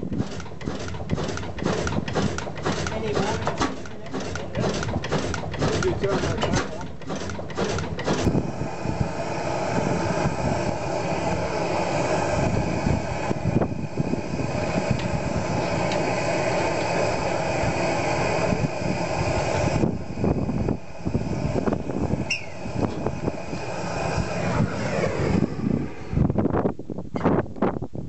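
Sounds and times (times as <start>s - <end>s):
oil engine running: 0.0s - 26.6s.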